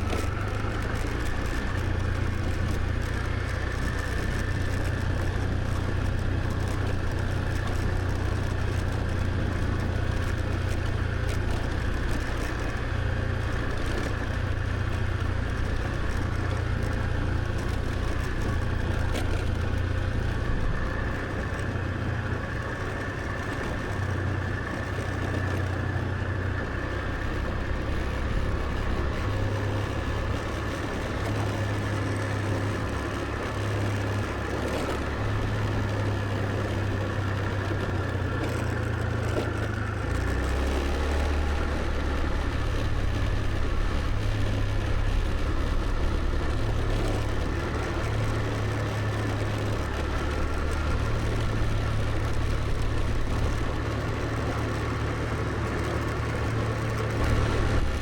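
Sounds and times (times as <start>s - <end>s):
scooter engine rumbling: 0.0s - 58.0s.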